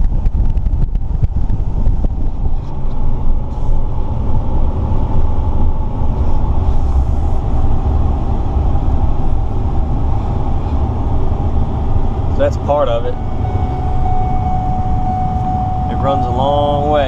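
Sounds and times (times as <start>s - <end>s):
vehicle cabin road rumble: 0.0s - 17.0s.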